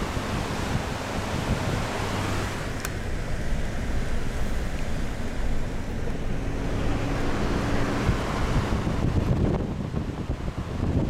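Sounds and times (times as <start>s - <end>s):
engine and tyres on gravel: 0.0s - 11.0s.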